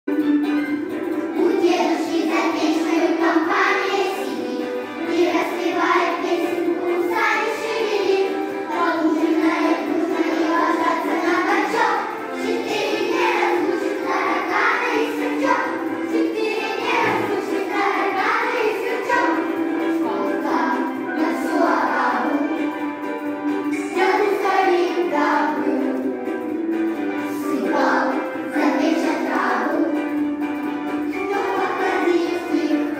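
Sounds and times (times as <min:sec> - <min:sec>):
children's choir singing: 0:00.1 - 0:32.9
musical accompaniment: 0:00.1 - 0:32.9.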